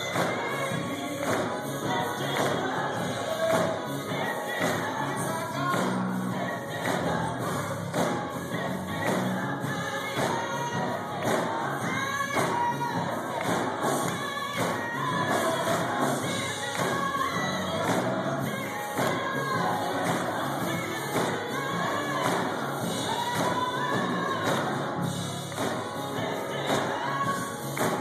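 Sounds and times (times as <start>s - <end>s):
band with thumping beat: 0.0s - 28.0s
choir singing gospel music: 0.0s - 28.0s.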